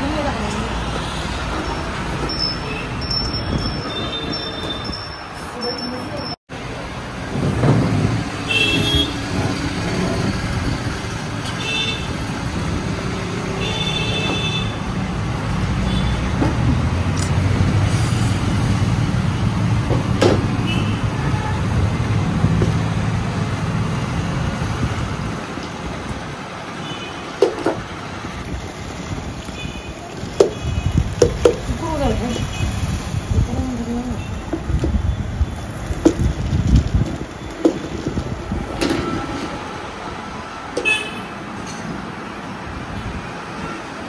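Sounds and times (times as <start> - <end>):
heavy vehicle rumbling: 6.5 - 44.0.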